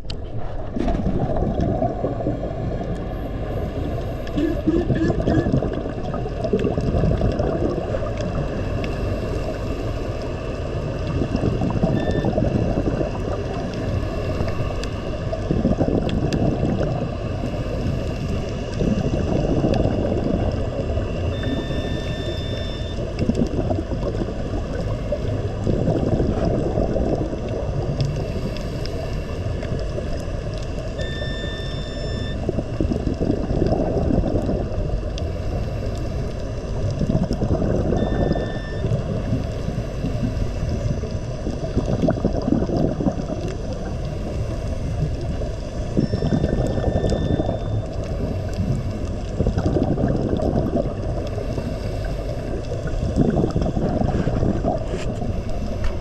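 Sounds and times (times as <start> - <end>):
sea water rumbling: 0.0 - 56.0.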